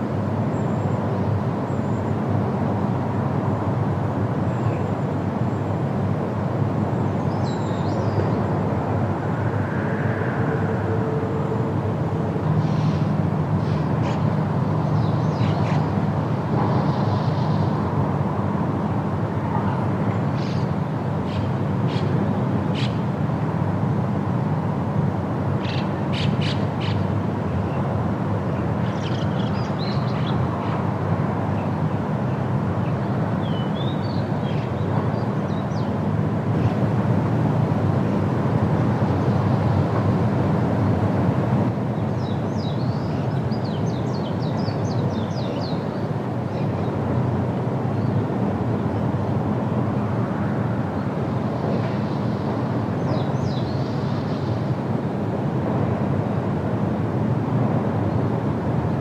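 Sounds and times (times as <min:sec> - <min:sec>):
wind through forest leaves: 0:00.0 - 0:59.0.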